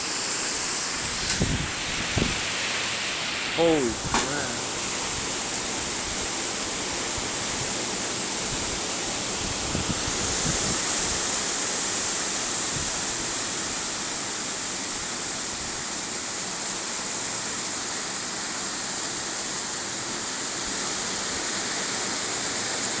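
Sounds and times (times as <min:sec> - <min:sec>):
rushing water hiss: 0:00.0 - 0:23.0.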